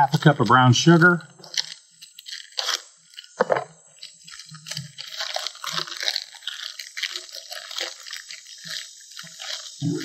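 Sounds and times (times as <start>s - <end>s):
plastic bag crinkling: 0.0s - 10.0s
plastic bag ripping: 0.2s - 10.0s.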